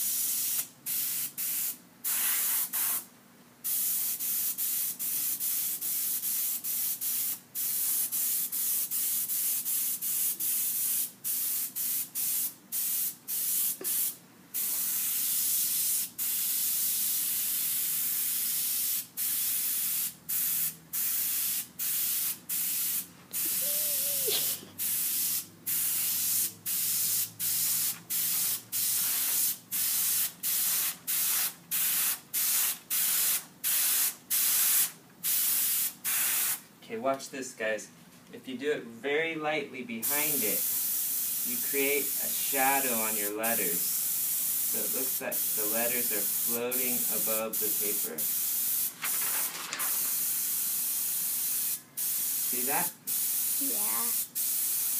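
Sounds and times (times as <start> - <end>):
airbrush spraying: 0.0 - 36.6, 40.0 - 49.0, 49.9 - 54.9.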